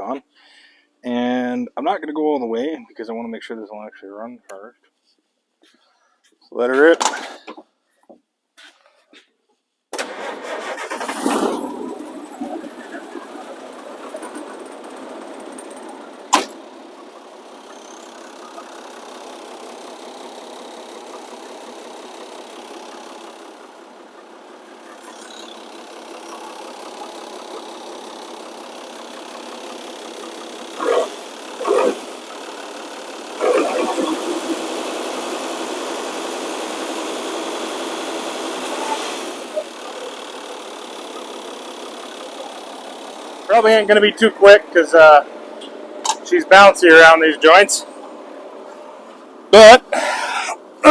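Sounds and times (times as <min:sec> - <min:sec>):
diesel engine starting and idling: 0:09.9 - 0:50.9
short louder engine bursts: 0:10.0 - 0:50.9.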